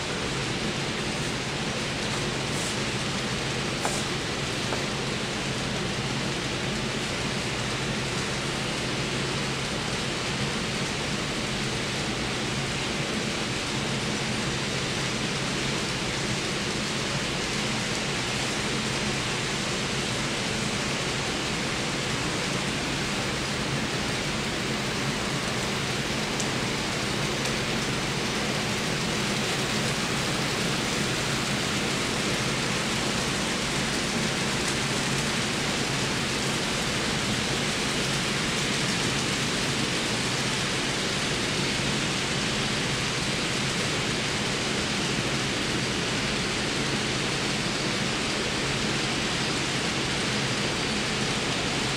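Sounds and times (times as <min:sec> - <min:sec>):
faint motor hum: 0:00.0 - 0:49.2.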